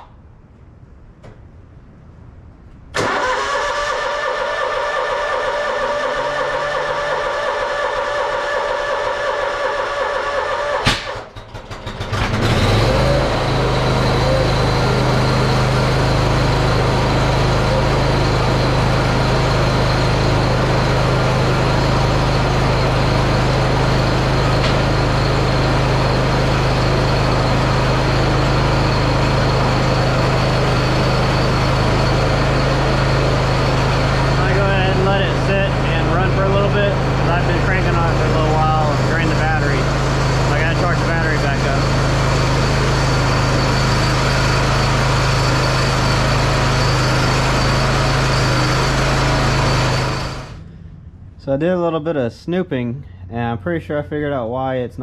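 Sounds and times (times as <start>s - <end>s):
steady whine: 1.5s - 11.8s, 12.5s - 55.0s
mower engine running: 3.0s - 50.8s.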